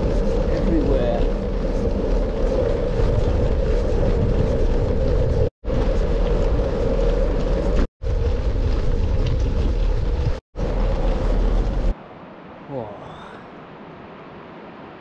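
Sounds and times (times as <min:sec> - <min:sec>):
wind buffeting microphone: 0:00.0 - 0:12.4
road noise: 0:00.0 - 0:15.0.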